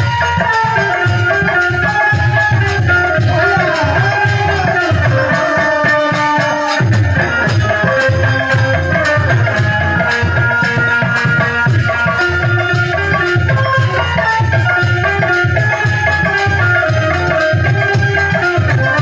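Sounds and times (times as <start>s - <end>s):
drum beating fast rhythm: 0.0s - 19.0s
held melody notes: 0.0s - 19.0s
rattling percussion: 0.0s - 19.0s.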